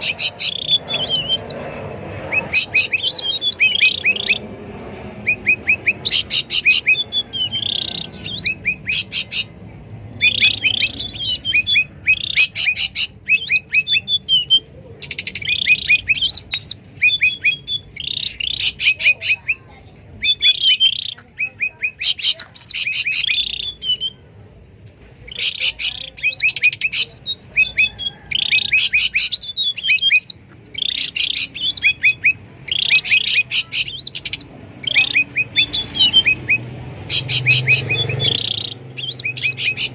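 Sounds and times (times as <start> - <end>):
birds chirping and whistling: 0.0 - 24.4, 25.2 - 39.9.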